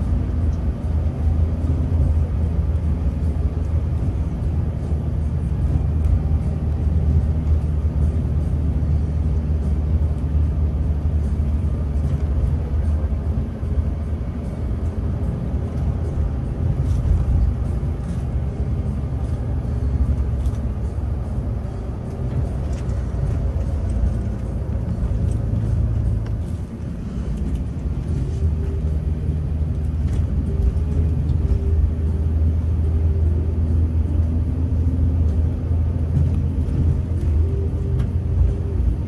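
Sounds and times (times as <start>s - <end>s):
diesel engine drone: 0.0s - 39.0s
road noise: 0.0s - 39.0s.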